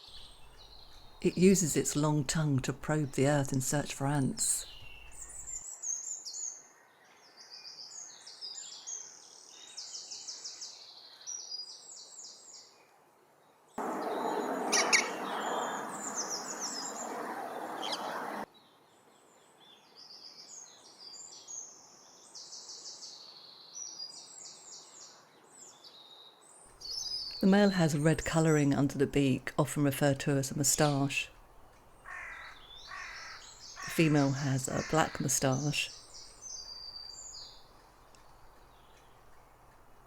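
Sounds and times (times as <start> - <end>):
songbirds chirping: 0.0 - 6.6, 13.8 - 40.0.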